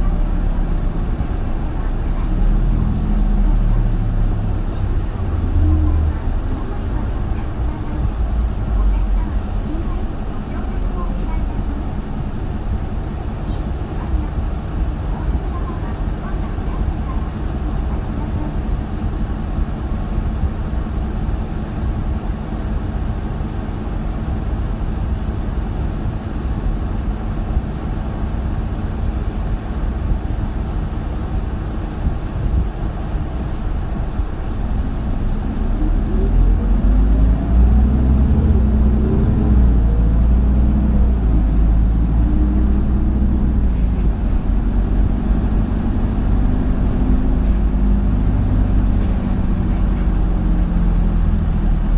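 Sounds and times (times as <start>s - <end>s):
bus diesel engine rumble: 0.0s - 51.9s.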